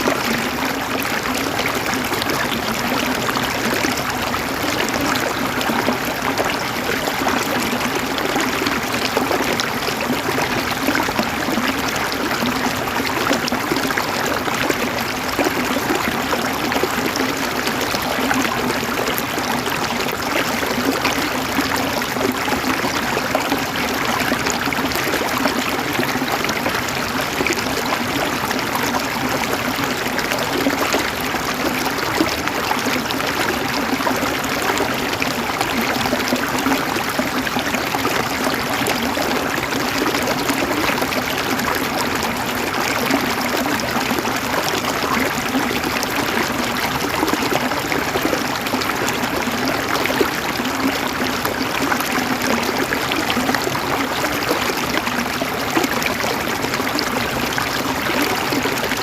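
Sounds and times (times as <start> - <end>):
river water flowing over rocks: 0.0 - 59.0.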